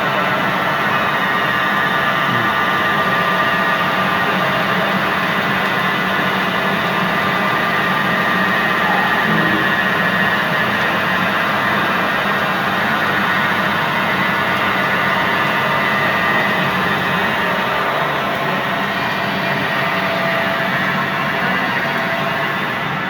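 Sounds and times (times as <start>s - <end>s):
lathe machine whining: 0.0s - 23.0s.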